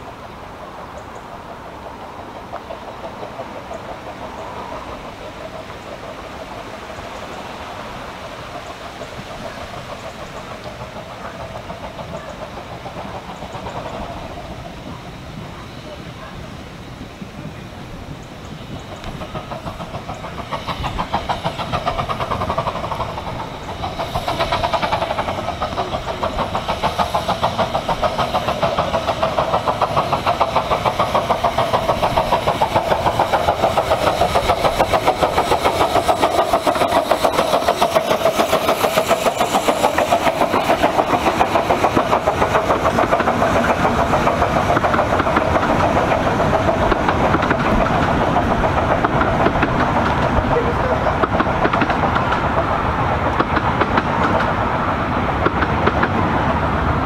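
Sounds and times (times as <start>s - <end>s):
steam locomotive chuffing: 0.0s - 57.0s
train carriages running past: 0.0s - 57.0s.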